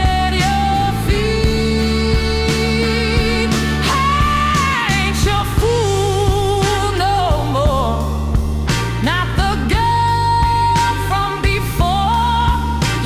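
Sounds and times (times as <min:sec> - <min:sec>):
slow soul-blues ballad: 0:00.0 - 0:13.0
steady drum beat: 0:00.0 - 0:13.0.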